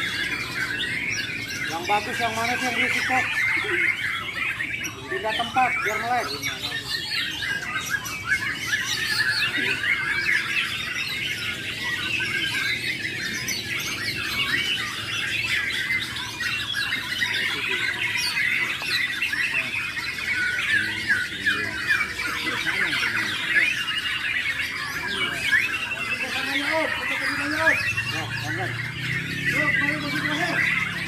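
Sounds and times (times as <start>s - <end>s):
songbirds chorus of chirps and trills: 0.0s - 31.0s.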